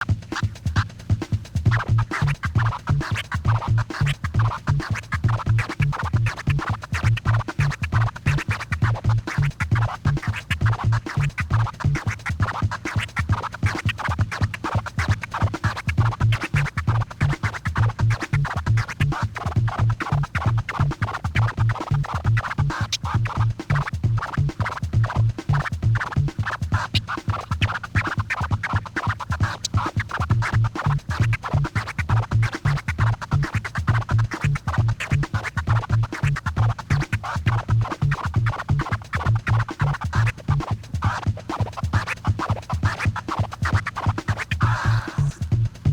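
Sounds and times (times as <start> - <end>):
beat with pulsing bass: 0.0 - 45.9
vinyl record scratching: 0.0 - 45.9.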